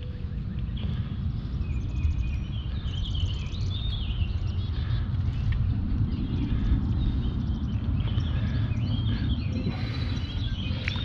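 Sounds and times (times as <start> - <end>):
birds chirping: 0.0 - 11.0
wind rumble on microphone: 0.0 - 11.0.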